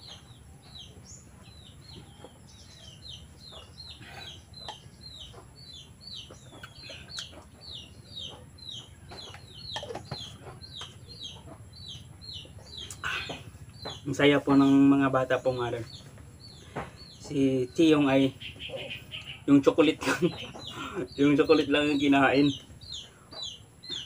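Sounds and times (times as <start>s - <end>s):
birds peeping: 0.0s - 24.0s.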